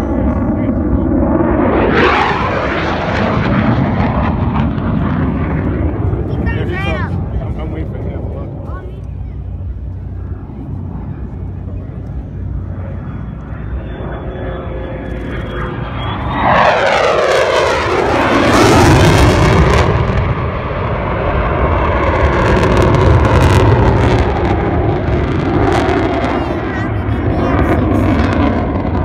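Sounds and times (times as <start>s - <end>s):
jet engine noise: 0.0s - 29.0s
jet passing: 0.0s - 29.0s.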